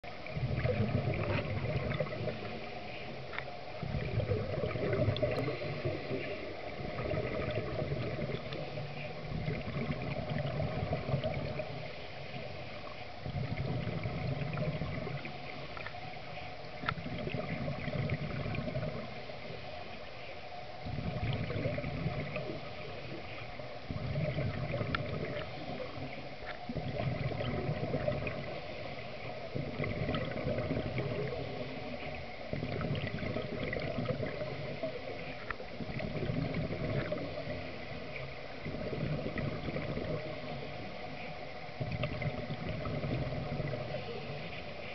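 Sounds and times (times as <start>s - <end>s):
bubbles gurgling underwater: 0.0s - 20.0s, 20.8s - 44.9s.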